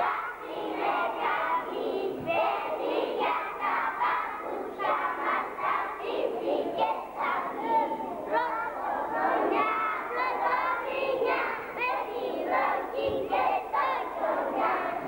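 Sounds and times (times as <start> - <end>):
children's voices chanting in unison: 0.0 - 15.0.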